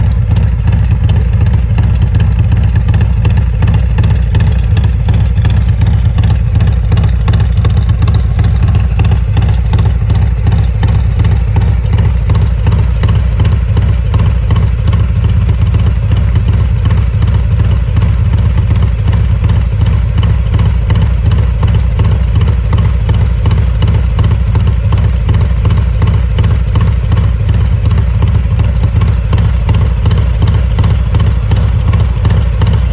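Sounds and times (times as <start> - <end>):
engine running steadily: 0.0 - 32.9.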